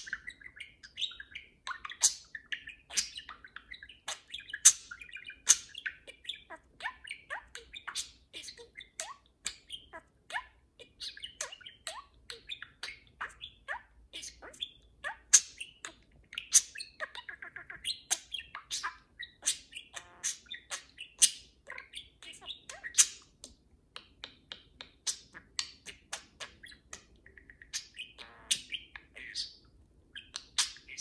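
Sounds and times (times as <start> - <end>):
budgerigars chattering: 0.0 - 23.4, 25.0 - 31.0.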